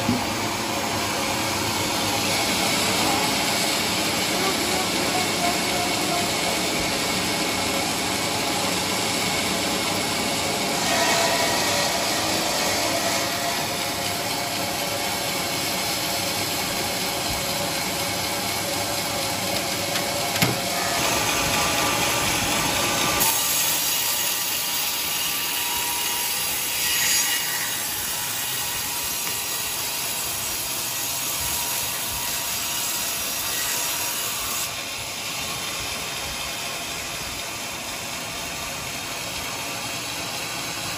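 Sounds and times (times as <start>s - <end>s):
band saw cutting wood: 0.0s - 40.9s.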